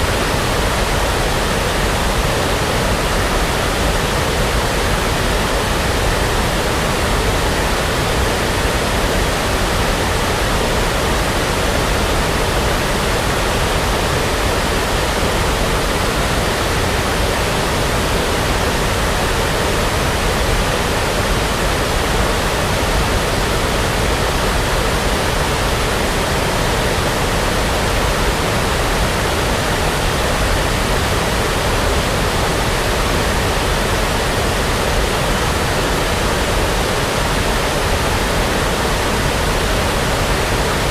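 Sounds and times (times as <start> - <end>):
brown noise hiss: 0.0 - 40.9.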